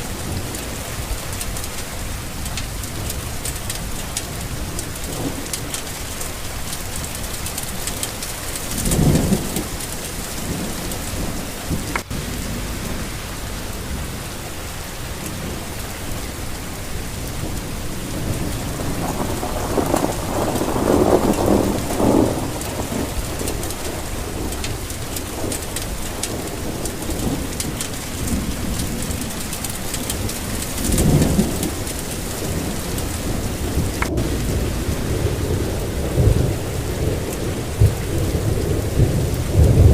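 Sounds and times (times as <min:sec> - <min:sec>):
steady rain falling: 0:00.0 - 0:39.9
thunder rolling: 0:00.0 - 0:39.9.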